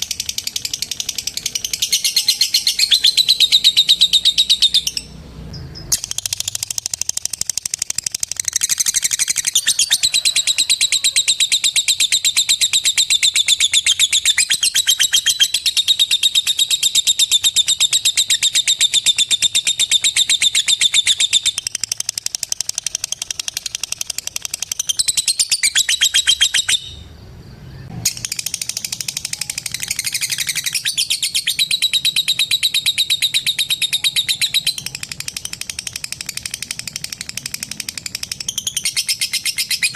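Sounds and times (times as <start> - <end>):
lovebird chattering trill: 0.0 - 27.1, 28.0 - 39.9.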